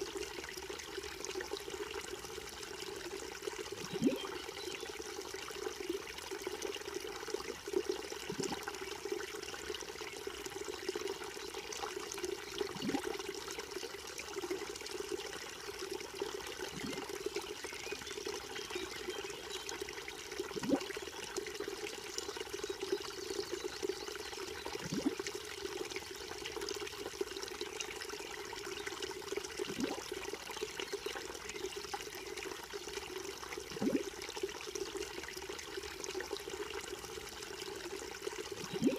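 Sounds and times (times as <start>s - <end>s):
creek trickling and gurgling: 0.0s - 38.9s.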